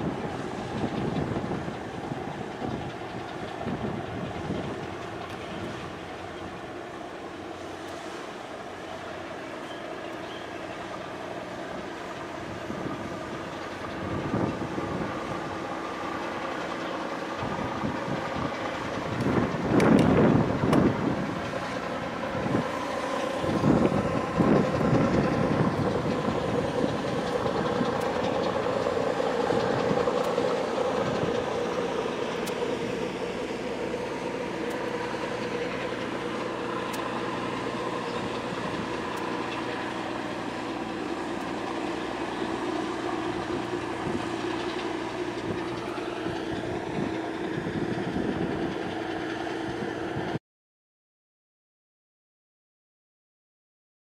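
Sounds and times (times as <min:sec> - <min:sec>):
wind buffeting microphone: 0:00.0 - 0:07.0, 0:09.1 - 0:50.4
engine drone: 0:00.0 - 0:50.4.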